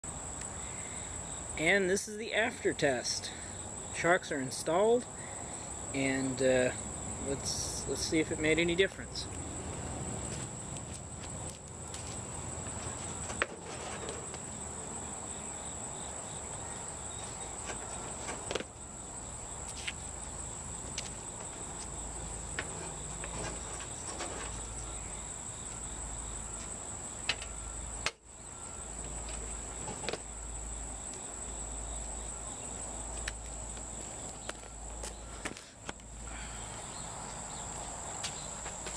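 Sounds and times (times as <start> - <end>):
crickets trilling: 0.1 - 38.9.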